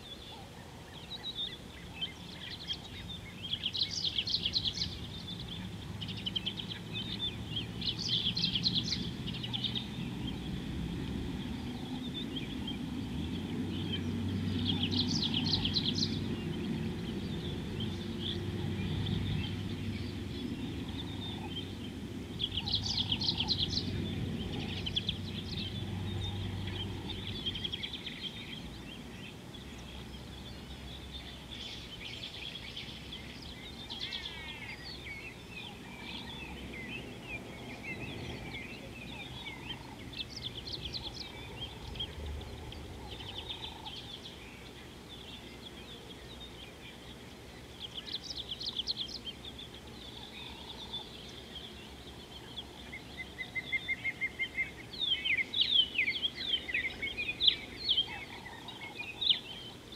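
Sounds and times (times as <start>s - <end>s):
wild birds chirping and trilling: 0.0s - 59.9s.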